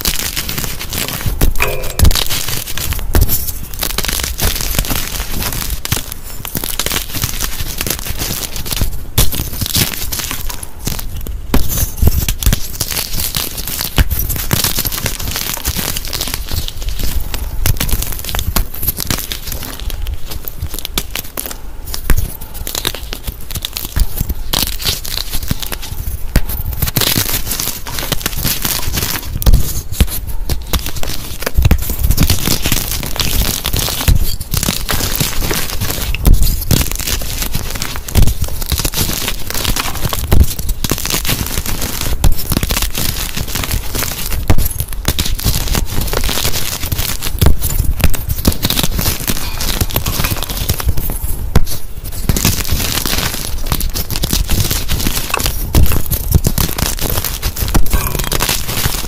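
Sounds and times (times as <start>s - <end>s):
chalk blocks crunching: 0.0s - 59.0s.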